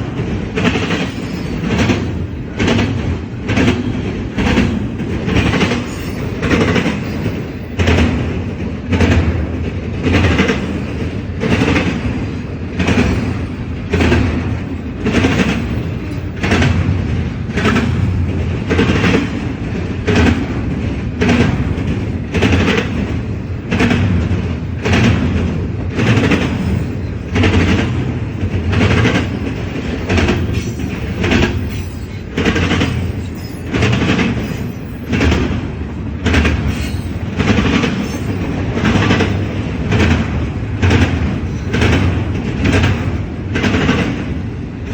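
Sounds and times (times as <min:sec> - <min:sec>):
low train rumble: 0:00.0 - 0:44.9
train wheels clattering over rail joints: 0:00.0 - 0:44.9.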